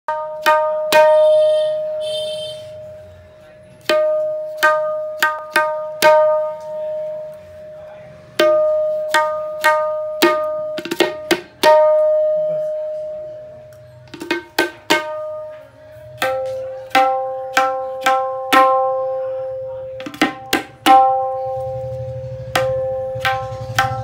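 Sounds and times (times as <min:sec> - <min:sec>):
tabla drum strokes: 0:00.1 - 0:24.0.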